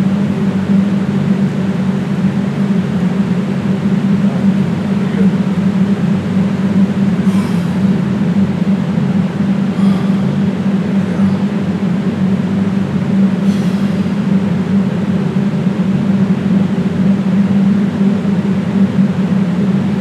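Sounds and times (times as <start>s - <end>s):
steady low electrical hum: 0.0s - 20.0s.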